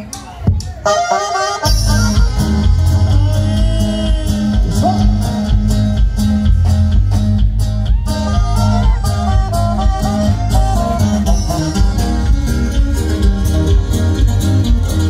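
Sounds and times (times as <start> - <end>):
live band playing: 0.0 - 15.0
bass line: 0.4 - 15.0
drums beating: 1.7 - 15.0.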